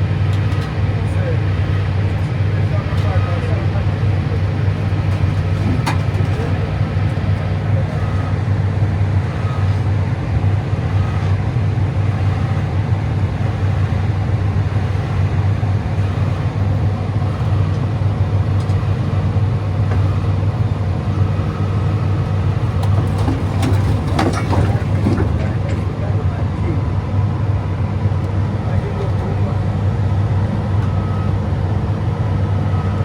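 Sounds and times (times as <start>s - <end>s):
excavator diesel engine droning: 0.0s - 33.0s.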